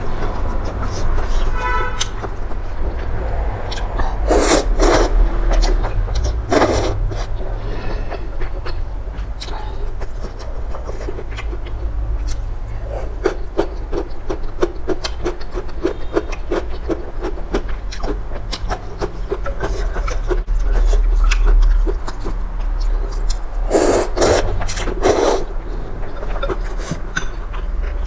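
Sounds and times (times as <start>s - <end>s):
rhythmic chewing of noodles: 0.0s - 28.0s.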